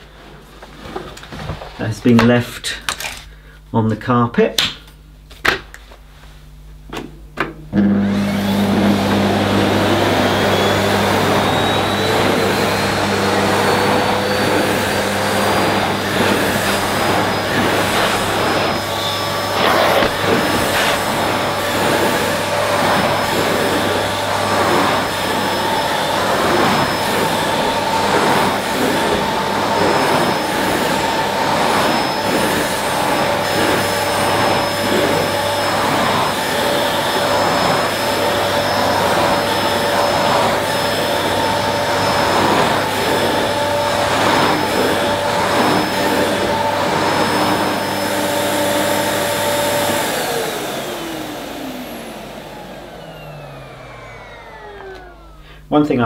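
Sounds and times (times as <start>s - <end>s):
vacuum cleaner running over carpet: 7.7s - 55.8s.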